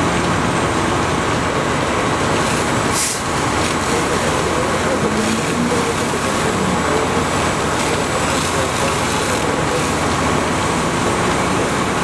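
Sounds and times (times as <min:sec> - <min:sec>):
fire burning: 0:00.0 - 0:12.0
fire engine pump running: 0:00.0 - 0:12.0
hose spraying water: 0:01.8 - 0:12.0.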